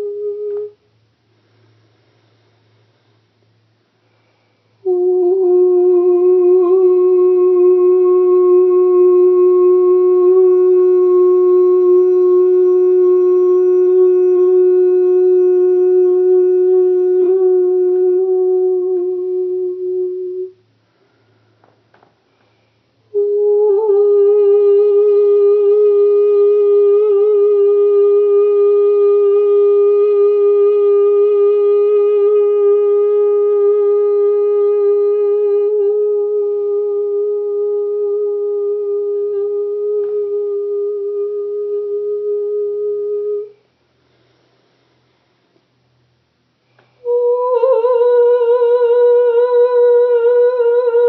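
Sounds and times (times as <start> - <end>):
woman singing a long note: 0.0 - 0.8, 4.8 - 20.6, 23.1 - 43.6, 47.0 - 51.0.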